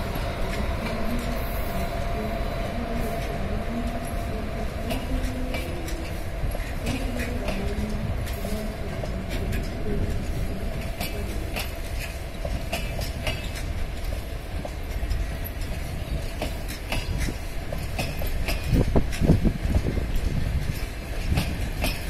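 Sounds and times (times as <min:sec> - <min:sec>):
train low rumble: 0:00.0 - 0:22.0
train thumps: 0:03.2 - 0:22.0.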